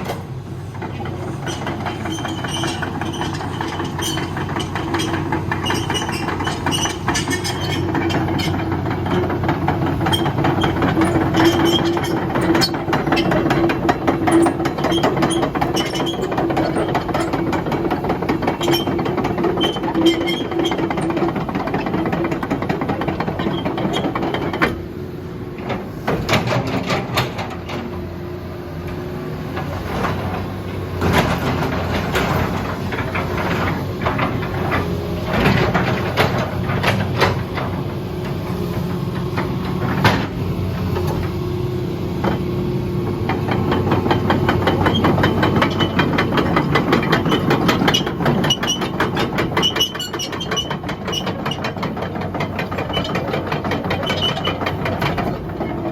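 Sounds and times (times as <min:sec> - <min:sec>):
metal clanks and knocks: 0:00.0 - 0:24.8, 0:25.6 - 0:28.1, 0:29.5 - 0:38.4, 0:39.1 - 0:41.3, 0:43.2 - 0:55.9.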